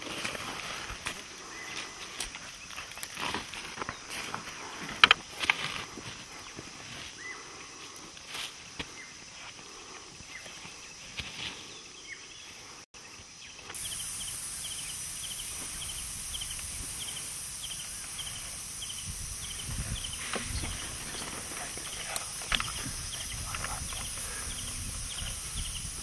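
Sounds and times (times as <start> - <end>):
rustling in dry leaf litter: 0.0 - 8.8, 13.7 - 26.0
high hiss of bush ambience: 0.0 - 26.0.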